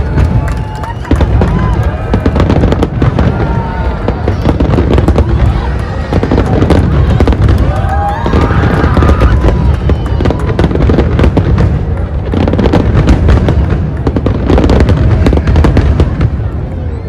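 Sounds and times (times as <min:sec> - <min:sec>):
fireworks bangs and crackles: 0:00.0 - 0:17.0
whistling fireworks: 0:00.0 - 0:17.0.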